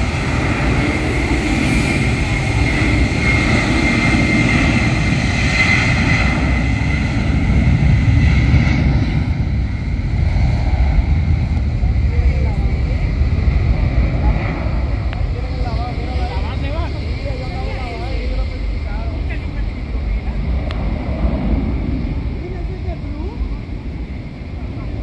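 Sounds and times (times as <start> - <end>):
jet airliner taking off: 0.0 - 25.0.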